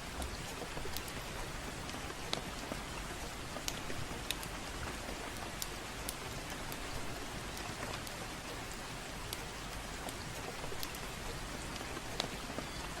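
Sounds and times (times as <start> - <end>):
fireplace crackling: 0.0 - 13.0
gentle rain: 0.0 - 13.0.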